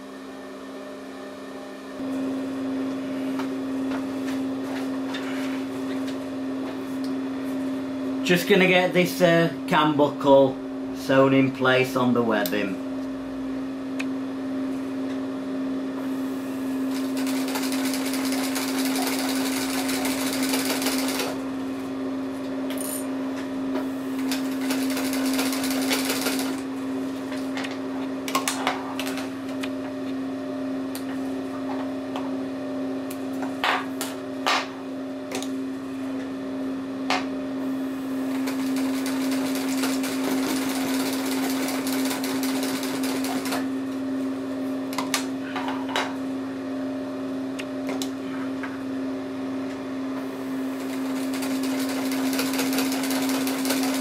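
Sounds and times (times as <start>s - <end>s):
motor hum: 0.0s - 54.0s.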